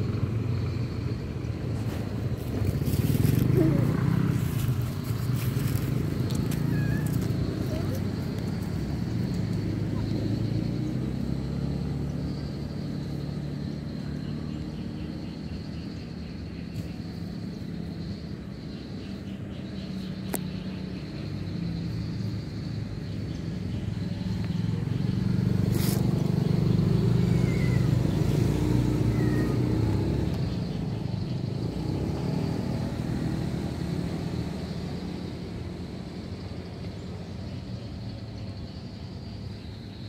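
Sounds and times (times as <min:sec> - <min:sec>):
passing vehicle engine: 0:00.0 - 0:40.0.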